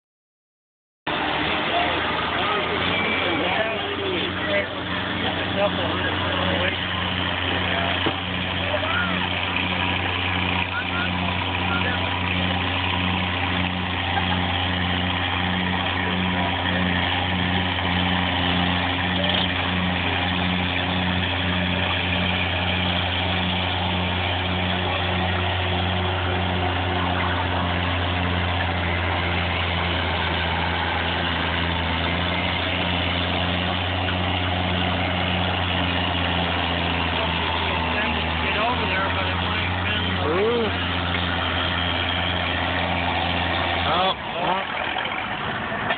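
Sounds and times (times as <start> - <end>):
tractor engine droning under load: 1.1 - 45.9.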